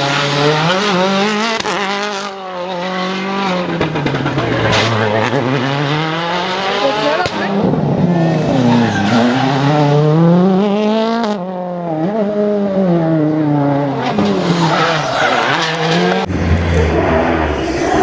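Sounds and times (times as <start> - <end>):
rally car engine racing: 0.0 - 18.0.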